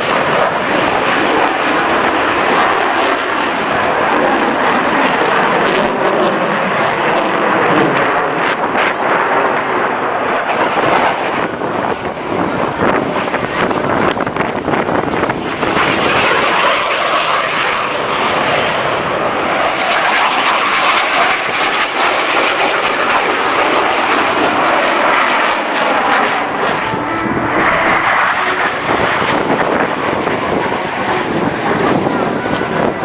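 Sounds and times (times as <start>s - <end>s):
airplane engine passing: 0.0s - 33.0s.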